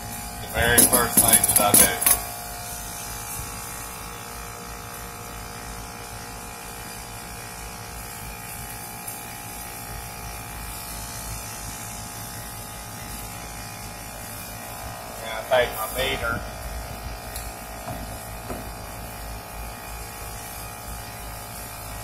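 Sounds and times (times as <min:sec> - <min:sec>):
air conditioning unit humming: 0:00.0 - 0:22.0.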